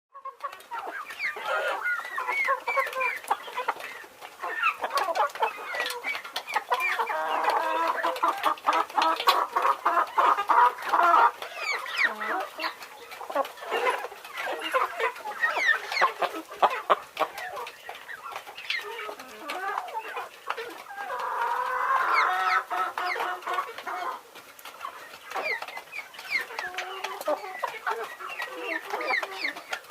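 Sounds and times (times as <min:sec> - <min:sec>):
chickens clucking: 0:00.1 - 0:29.9.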